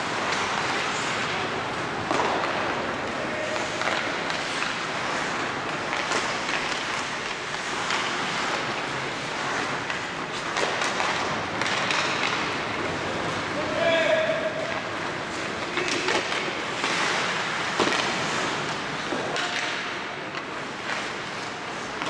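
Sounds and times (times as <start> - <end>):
skates hissing on ice: 0.0 - 14.1, 14.8 - 22.0
hockey sticks and puck clacking: 0.0 - 22.0.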